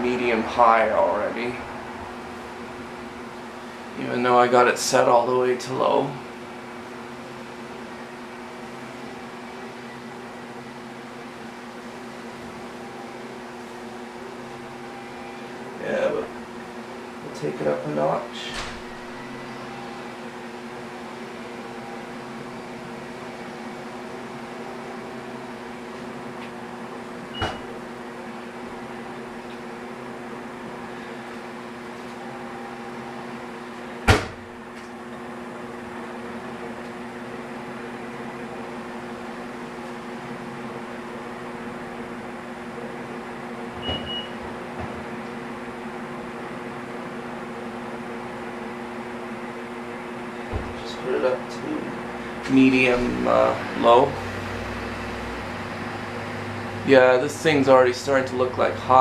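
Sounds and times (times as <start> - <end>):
ceiling fan motor humming: 0.0 - 59.0.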